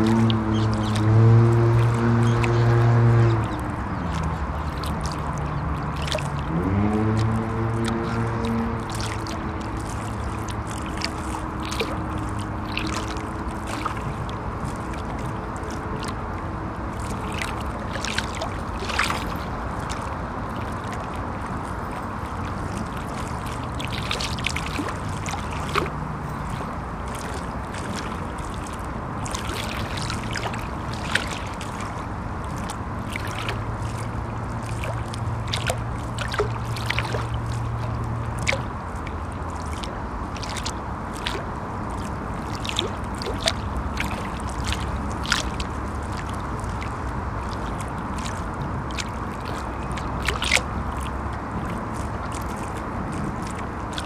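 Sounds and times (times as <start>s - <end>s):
river water lapping: 0.0s - 54.0s
traffic rumble on a bridge: 0.0s - 54.0s.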